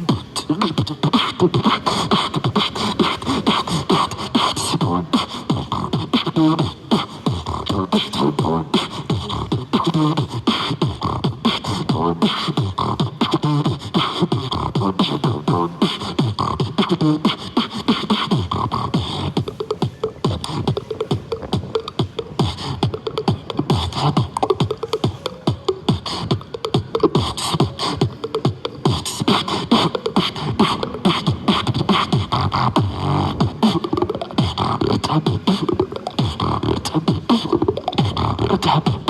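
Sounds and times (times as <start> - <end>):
person beatboxing: 0.0 - 39.0
pitched humming: 0.0 - 39.0.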